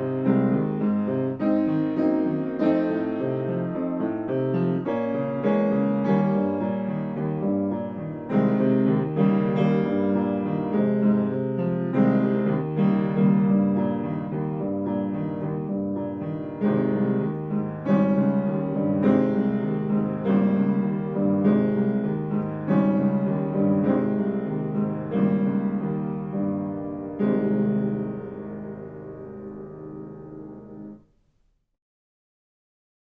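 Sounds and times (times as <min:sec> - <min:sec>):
solo piano chords: 0:00.0 - 0:31.3.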